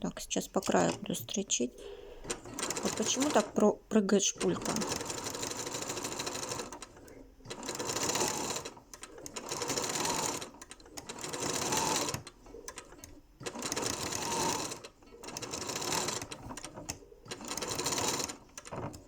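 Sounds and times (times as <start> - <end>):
sewing machine stitching: 0.6 - 1.3, 2.2 - 19.0.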